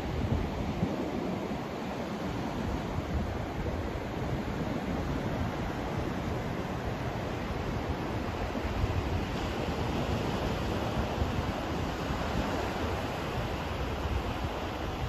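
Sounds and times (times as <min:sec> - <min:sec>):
steady white noise: 0:00.0 - 0:15.0.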